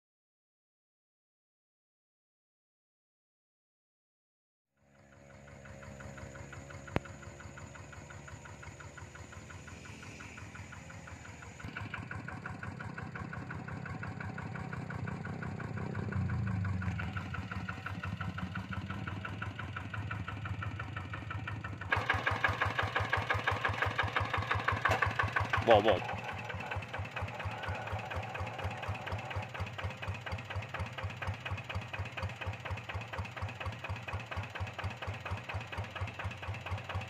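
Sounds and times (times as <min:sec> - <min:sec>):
diesel engine chugging: 0:04.8 - 0:37.0.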